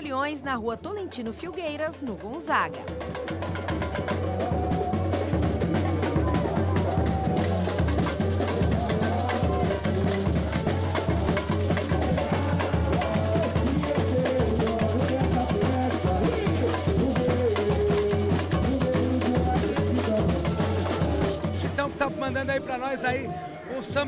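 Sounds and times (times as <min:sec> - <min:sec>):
samba street band: 0:00.0 - 0:24.0
drum beat: 0:01.0 - 0:23.4
shakers: 0:01.3 - 0:22.3.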